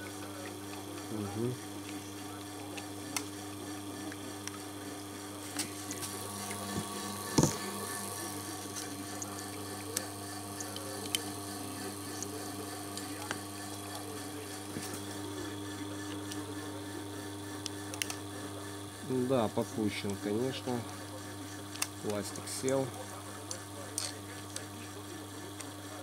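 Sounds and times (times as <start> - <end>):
pump humming: 0.0 - 26.0.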